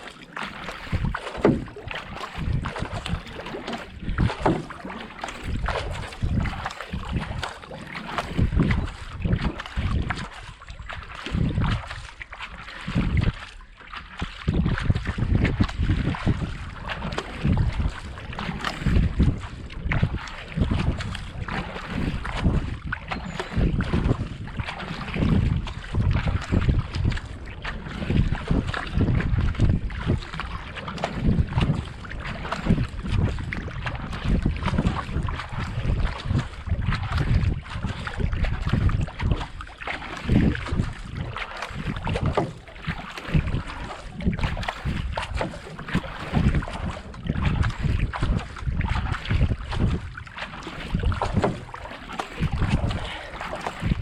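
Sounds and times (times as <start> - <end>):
paddle blades splashing: 0.0 - 54.0
wind buffeting microphone: 0.0 - 54.0.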